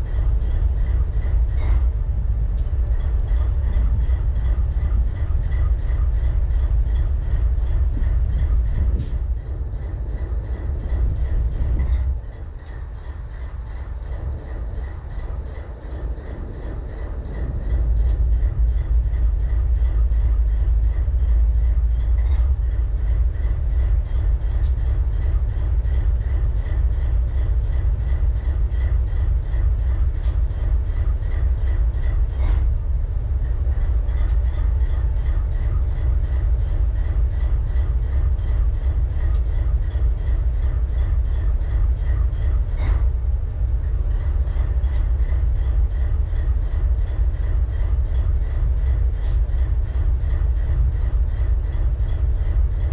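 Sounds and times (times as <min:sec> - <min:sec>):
locomotive engine idling: 0:00.0 - 0:52.9.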